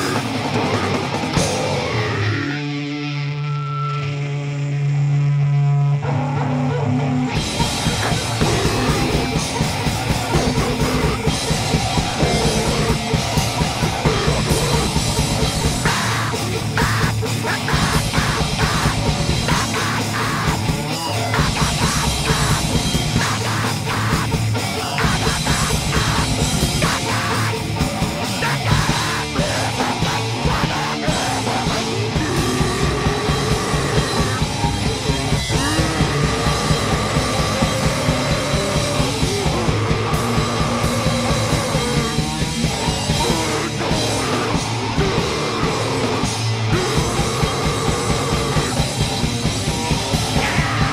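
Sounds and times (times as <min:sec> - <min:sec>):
fast drums: 0:00.0 - 0:02.3, 0:07.1 - 0:50.9
distorted guitars: 0:00.0 - 0:50.9
heavy metal band playing: 0:00.0 - 0:50.9
shouted vocals: 0:07.8 - 0:49.2, 0:49.9 - 0:50.9.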